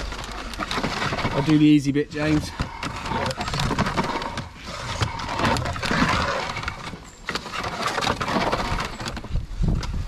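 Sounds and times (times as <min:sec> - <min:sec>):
cable scraping on paving: 0:00.0 - 0:10.0.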